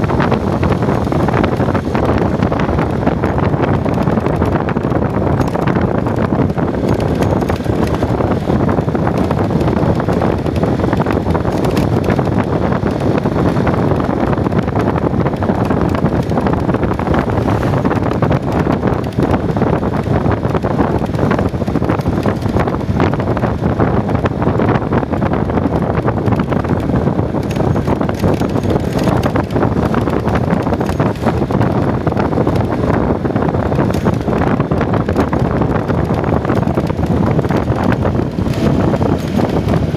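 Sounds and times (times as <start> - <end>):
vehicle running noise: 0.0 - 39.9
wind buffeting microphone: 0.0 - 39.9.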